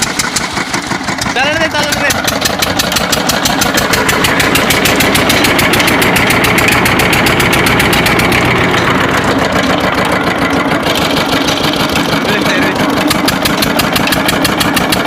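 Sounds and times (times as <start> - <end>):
diesel pump engine running: 0.0 - 15.0.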